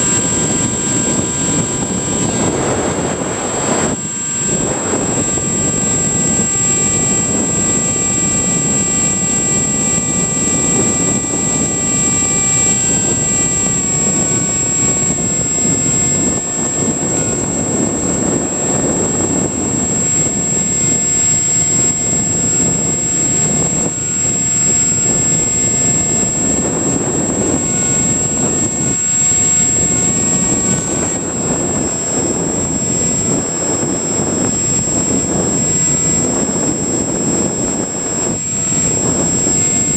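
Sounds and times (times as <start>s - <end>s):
electric motor and propeller whine: 0.0s - 39.9s
rush of wind: 0.0s - 39.9s.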